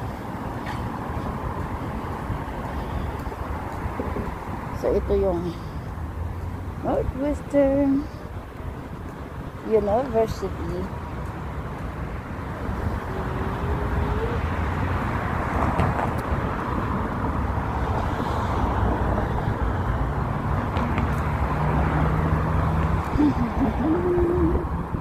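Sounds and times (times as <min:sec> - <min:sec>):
cars driving past: 0:00.0 - 0:25.0
vehicle engine humming: 0:00.0 - 0:25.0.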